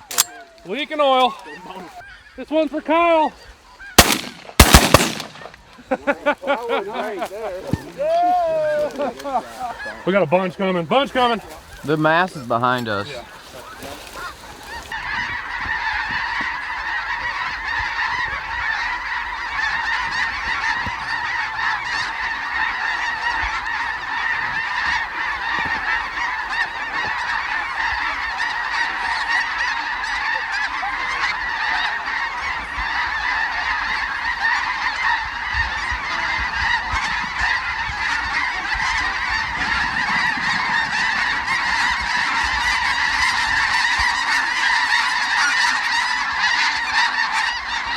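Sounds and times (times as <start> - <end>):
flock of geese honking: 0.0 - 47.9.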